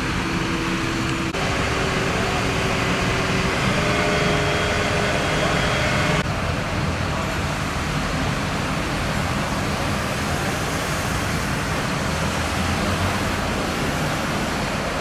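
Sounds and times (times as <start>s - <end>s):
street noise: 0.0s - 15.0s
vehicle engine rumbling: 0.0s - 15.0s.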